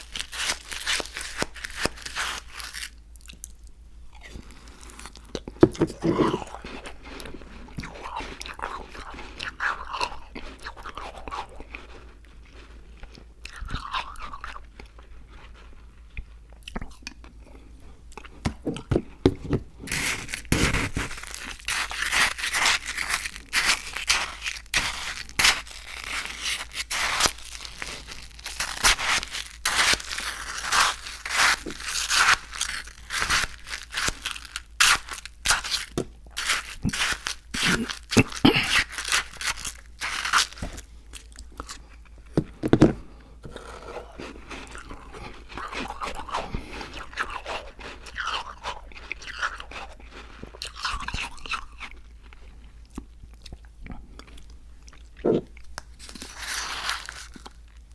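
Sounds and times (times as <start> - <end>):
chewing and crunching slush: 0.0 - 57.9.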